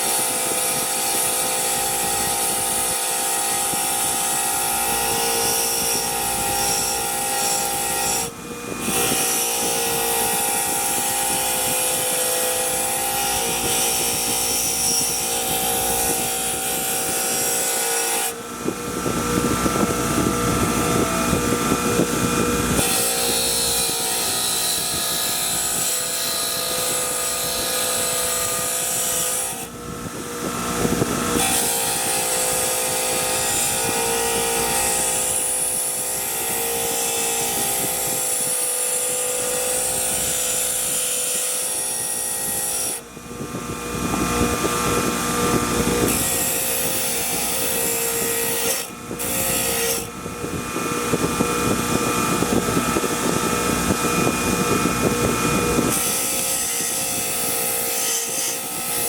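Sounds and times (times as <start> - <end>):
electric power tool running: 0.0 - 59.0.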